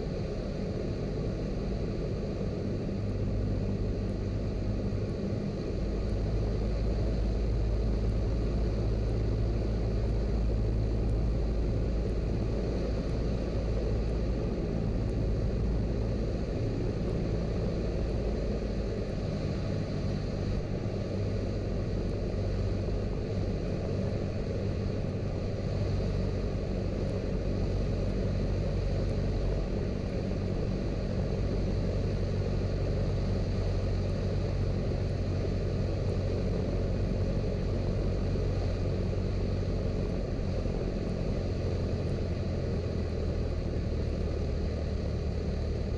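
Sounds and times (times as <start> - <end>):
propeller plane engine drone: 0.0 - 45.9.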